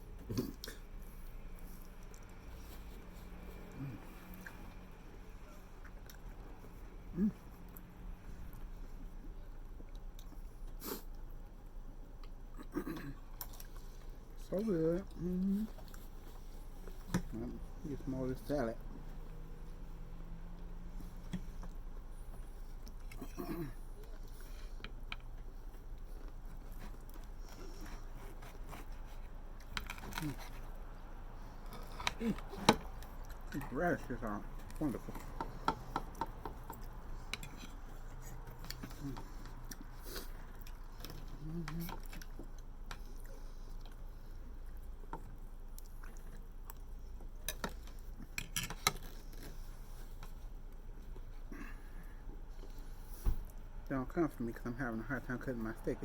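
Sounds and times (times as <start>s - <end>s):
person chewing: 0.1s - 14.3s, 15.0s - 17.7s, 20.6s - 53.7s.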